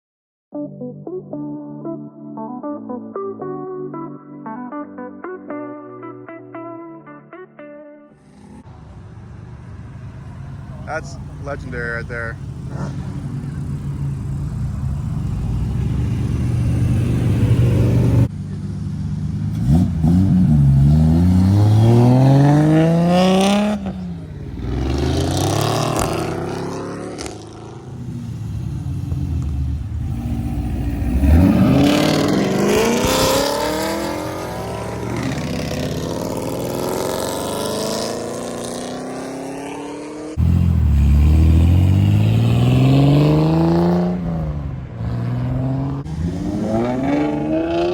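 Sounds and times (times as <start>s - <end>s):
car engines revving and accelerating: 8.2s - 47.9s.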